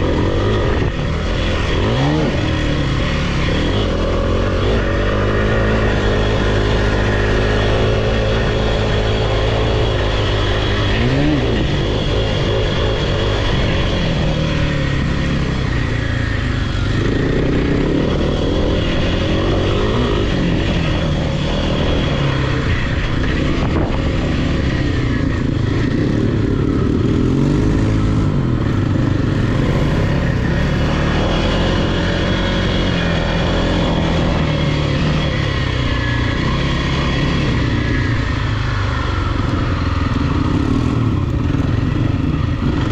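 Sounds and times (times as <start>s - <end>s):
single-cylinder engine revving: 0.0s - 42.9s.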